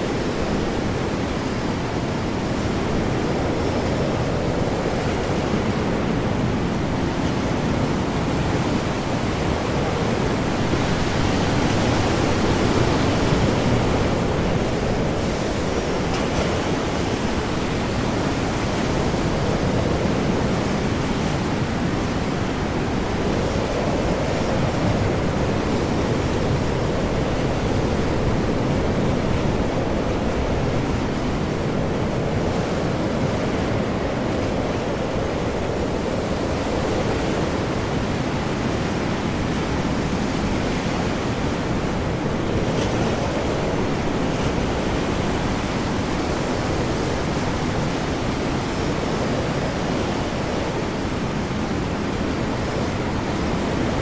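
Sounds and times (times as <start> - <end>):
heavy ocean waves: 0.0 - 54.0
strong wind: 0.0 - 54.0.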